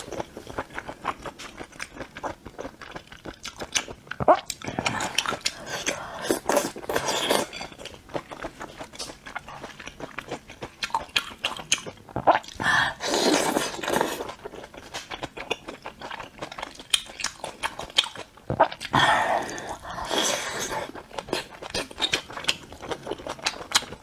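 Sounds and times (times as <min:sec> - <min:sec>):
chewing and biting food: 0:00.0 - 0:24.0.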